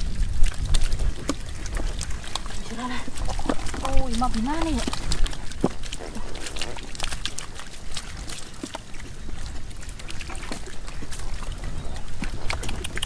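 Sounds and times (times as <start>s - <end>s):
fish splashing in shallow water: 0.0s - 13.0s.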